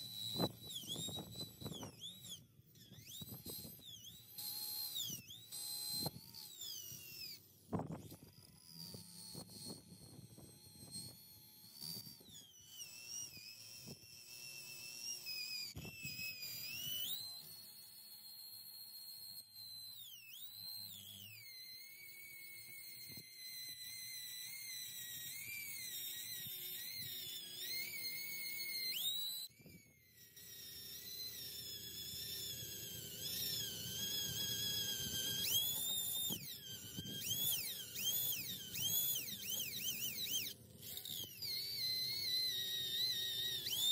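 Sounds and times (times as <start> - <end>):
drill whining: 0.0 - 43.9.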